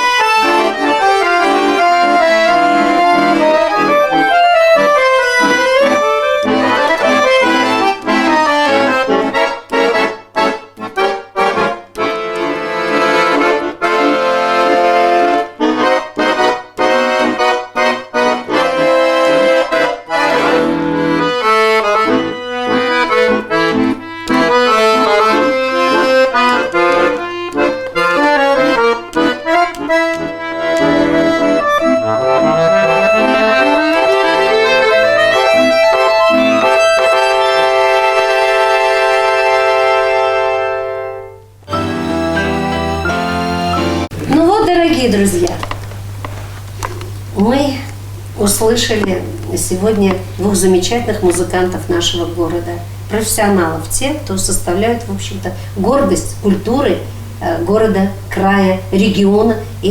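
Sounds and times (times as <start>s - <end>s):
button accordion playing lively tune: 0.0s - 46.2s, 46.9s - 59.9s.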